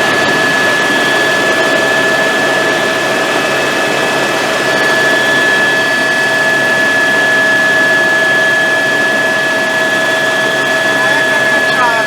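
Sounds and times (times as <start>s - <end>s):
helicopter engine and rotor roar: 0.0s - 12.0s
high turbine whine: 0.0s - 12.0s.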